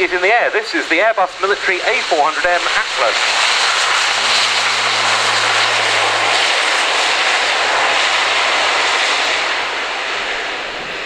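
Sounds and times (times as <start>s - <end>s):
turboprop engines at take-off power: 0.0s - 11.0s.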